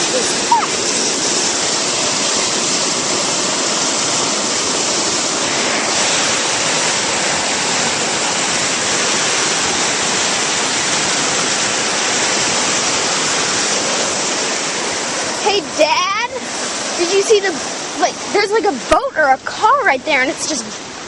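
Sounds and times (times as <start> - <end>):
floodwater rushing in river: 0.0 - 21.0.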